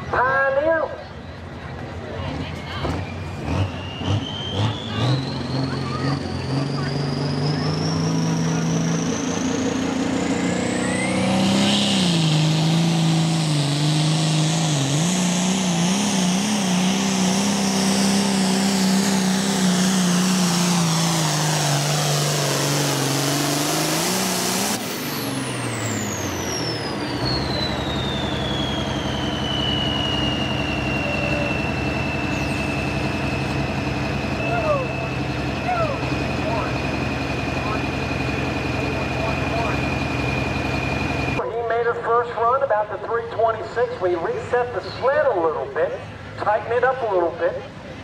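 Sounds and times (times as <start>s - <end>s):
tractor diesel engine revving: 1.3s - 48.0s
turbocharger whine: 2.1s - 48.0s.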